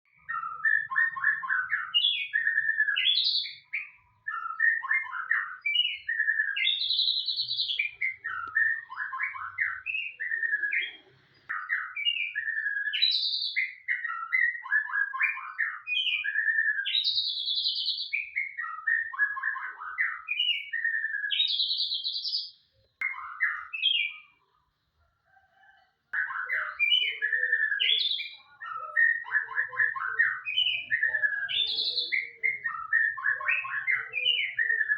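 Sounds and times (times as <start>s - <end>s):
songbird whistling and chattering: 0.1s - 24.6s, 25.6s - 34.9s.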